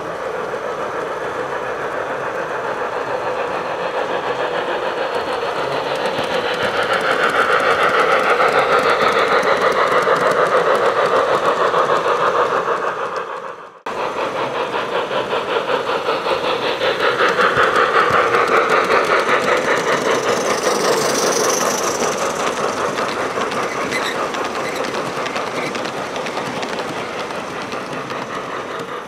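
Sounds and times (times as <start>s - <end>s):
model train rhythmic clicking: 0.0s - 29.0s.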